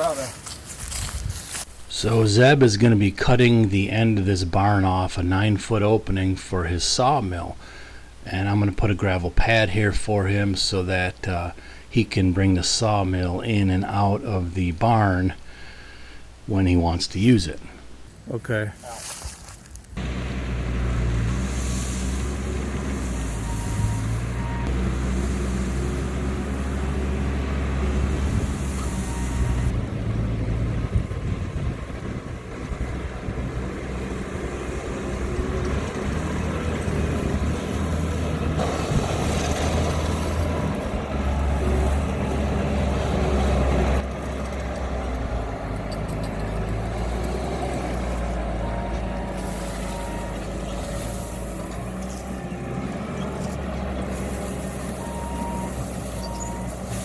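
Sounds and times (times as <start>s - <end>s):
diesel engine droning: 1.9s - 16.2s, 20.0s - 57.0s.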